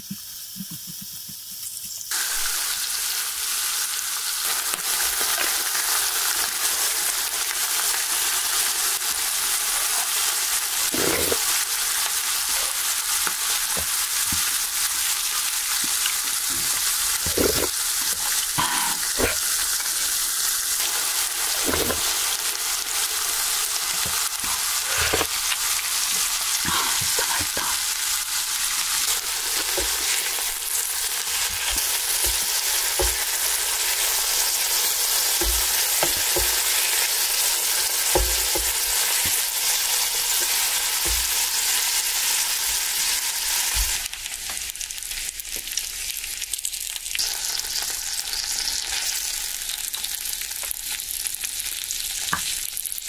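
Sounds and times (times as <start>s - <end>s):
meat sizzling on a griddle: 0.0s - 53.0s.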